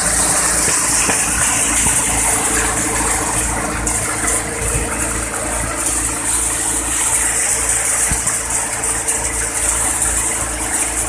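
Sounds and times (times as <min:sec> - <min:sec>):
thresher machine running: 0:00.0 - 0:11.0.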